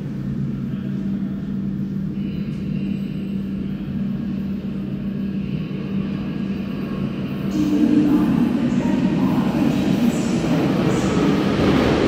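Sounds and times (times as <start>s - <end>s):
low rumble of train in tunnel: 0.0s - 12.0s.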